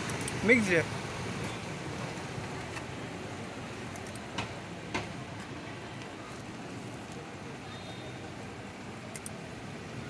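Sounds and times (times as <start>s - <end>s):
street noise hum: 0.0s - 10.0s.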